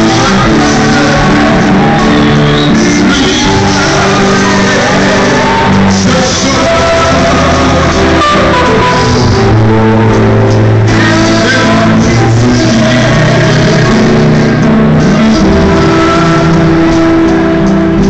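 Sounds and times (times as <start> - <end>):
guitars playing: 0.0 - 18.0
men singing into microphones: 0.0 - 18.0.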